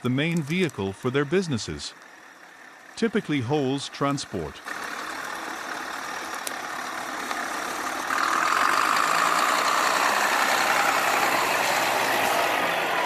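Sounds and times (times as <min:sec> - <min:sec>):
heavy truck engine rumbling: 0:00.0 - 0:13.0.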